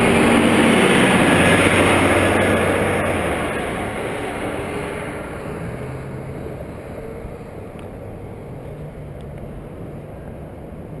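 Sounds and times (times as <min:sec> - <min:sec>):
bus pulling away: 0:00.0 - 0:11.0
traffic hum: 0:00.0 - 0:11.0.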